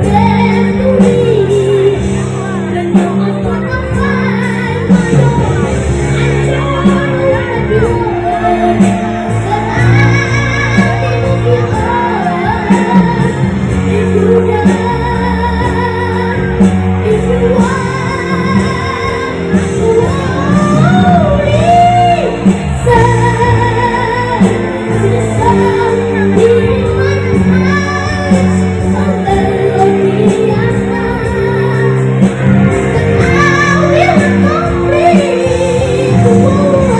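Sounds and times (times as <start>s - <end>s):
backing music: 0.0s - 36.9s
child singing with vibrato: 0.0s - 36.9s.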